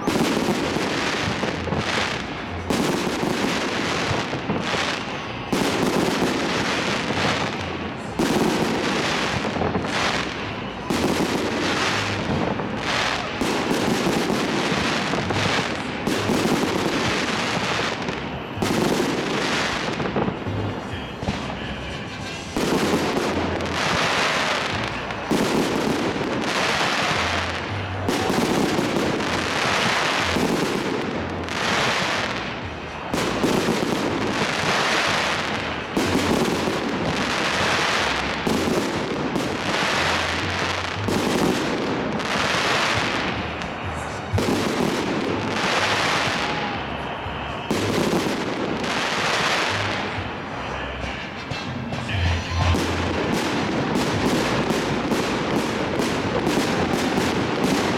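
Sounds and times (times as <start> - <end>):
fireworks crackling: 0.0 - 57.9
fireworks shells booming: 0.0 - 57.9.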